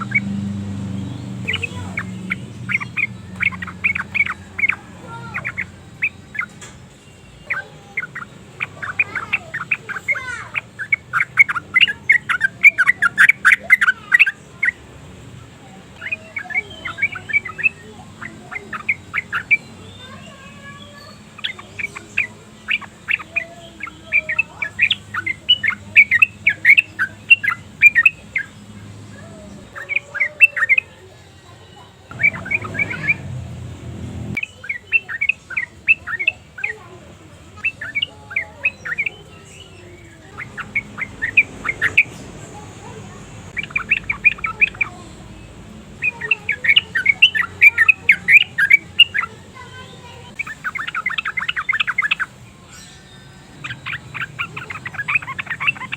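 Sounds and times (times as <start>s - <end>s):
bird chattering song: 0.0s - 55.9s.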